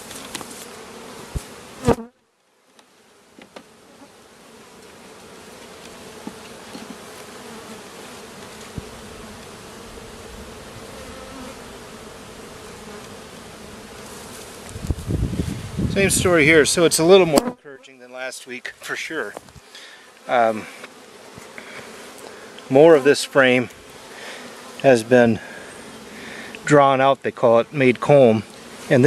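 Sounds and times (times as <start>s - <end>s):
honeybees buzzing: 0.0s - 2.2s, 2.8s - 29.0s.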